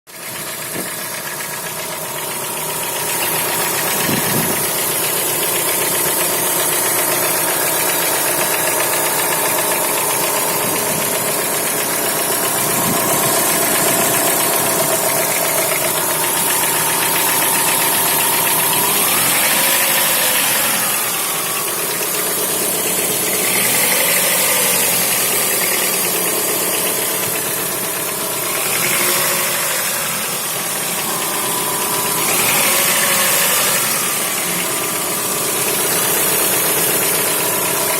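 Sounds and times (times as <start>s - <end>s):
car engine running: 0.1s - 37.9s
fast engine knock: 0.1s - 37.9s.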